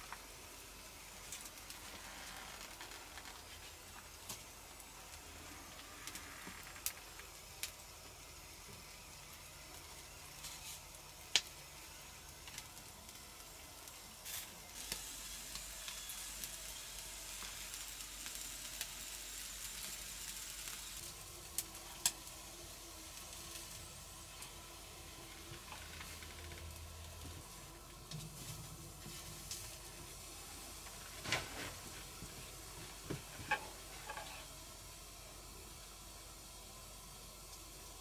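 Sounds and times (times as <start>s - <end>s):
food sizzling on grill: 0.0s - 38.0s.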